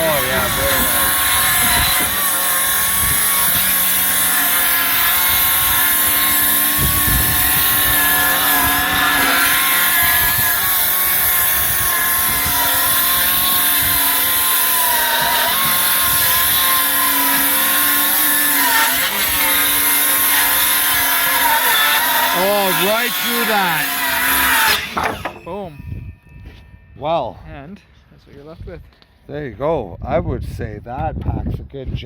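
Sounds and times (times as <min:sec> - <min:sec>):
circular saw cutting wood: 0:00.0 - 0:25.9.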